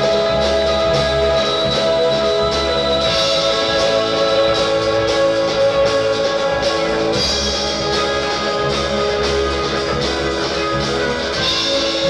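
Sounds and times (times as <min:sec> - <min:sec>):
drums: 0:00.0 - 0:12.0
live rock band playing: 0:00.0 - 0:12.0.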